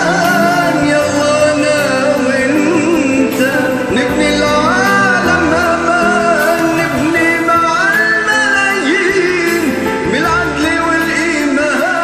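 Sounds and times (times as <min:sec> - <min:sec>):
karaoke backing track: 0:00.0 - 0:12.0
man singing: 0:00.0 - 0:12.0.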